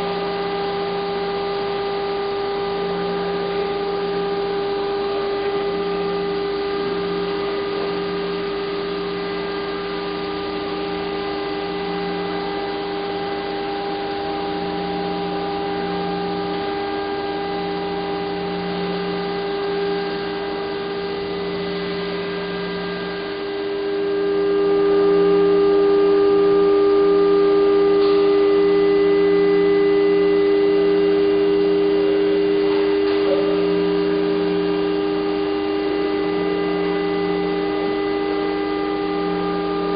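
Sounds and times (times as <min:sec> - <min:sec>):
assembly line machine hum: 0:00.0 - 0:39.9
pulsing low hum: 0:00.0 - 0:39.9.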